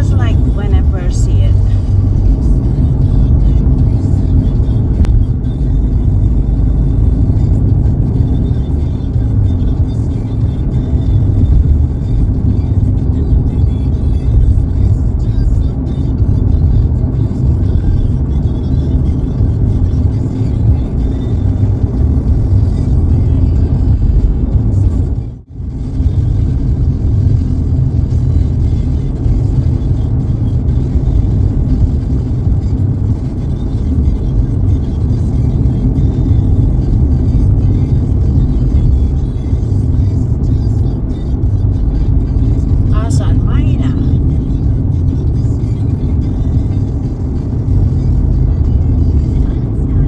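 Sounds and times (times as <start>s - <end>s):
car engine and tyre rumble: 0.0s - 50.0s.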